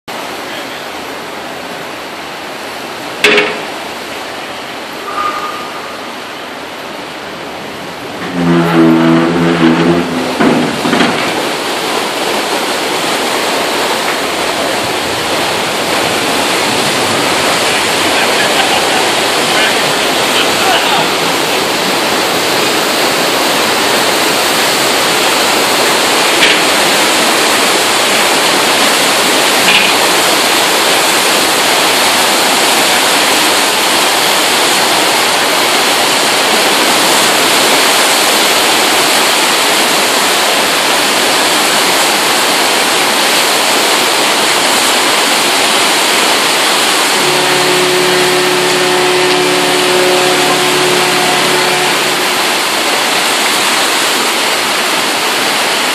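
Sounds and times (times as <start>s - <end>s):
churning water rushing: 0.0s - 55.9s.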